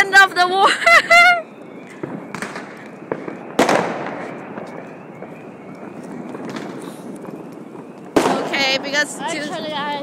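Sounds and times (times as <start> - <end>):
crackle of firecrackers: 0.0 - 10.0
firework cracks: 1.5 - 10.0.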